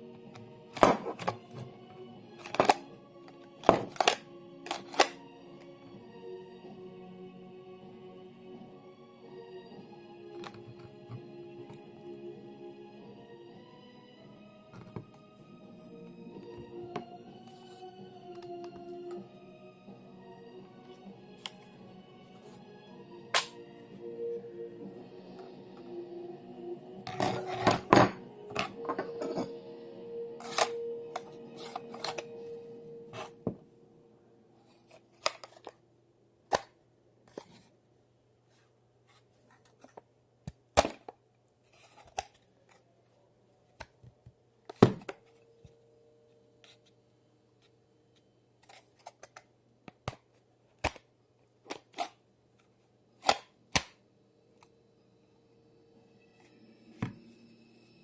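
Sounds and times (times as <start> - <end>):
faint music: 0.0 - 58.0.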